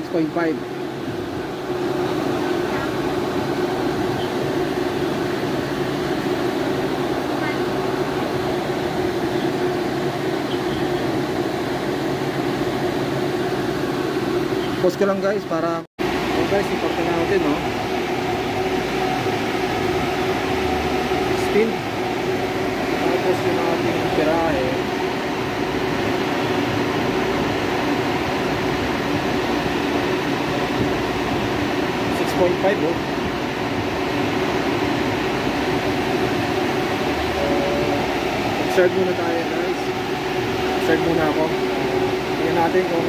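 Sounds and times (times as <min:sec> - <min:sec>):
freezer compressor and fans humming: 0:00.0 - 0:43.0.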